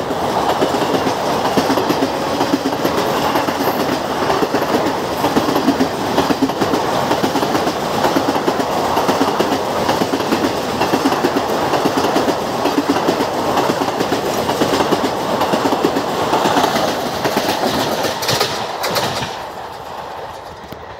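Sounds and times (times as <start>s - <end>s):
train wheels clattering over rail joints: 0.0s - 20.9s.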